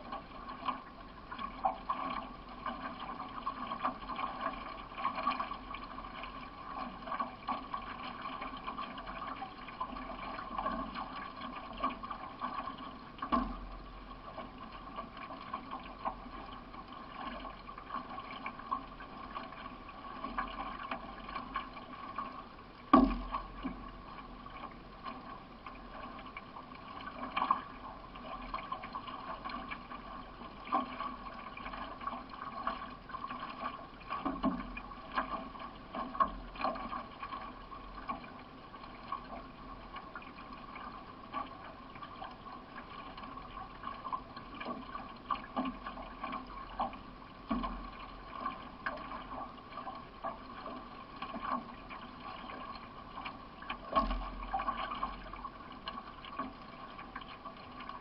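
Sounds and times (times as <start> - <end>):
paddle strokes splashing: 0.0 - 58.0
water running along hull: 0.0 - 58.0.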